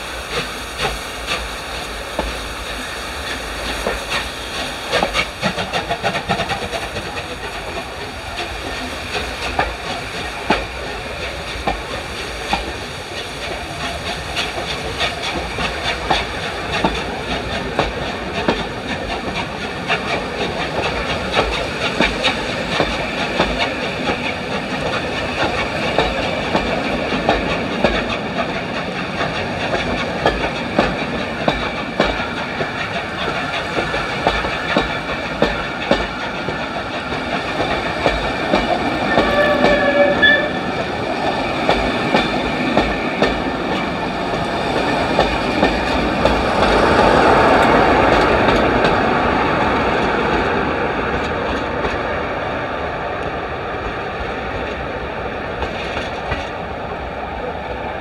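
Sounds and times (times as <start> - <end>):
train wheels clicking over rail joints: 0.0 - 57.1.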